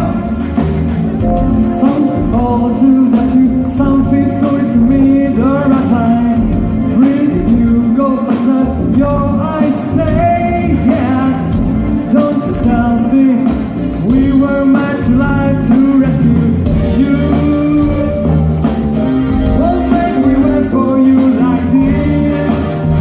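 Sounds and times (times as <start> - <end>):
rock song with singing: 0.0 - 23.0.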